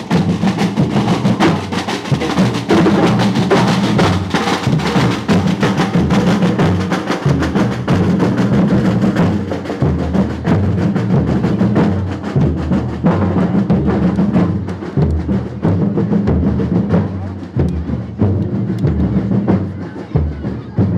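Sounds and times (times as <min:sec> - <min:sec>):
percussion music: 0:00.0 - 0:20.9.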